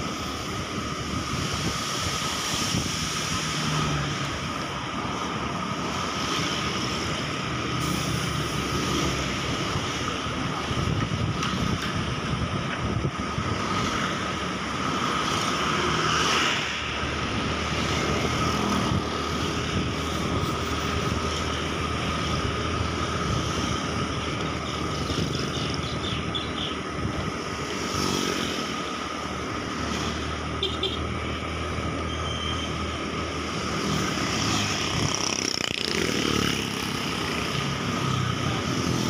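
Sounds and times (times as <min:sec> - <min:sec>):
passing traffic: 0:00.0 - 0:39.0
wind and road noise: 0:00.0 - 0:39.0.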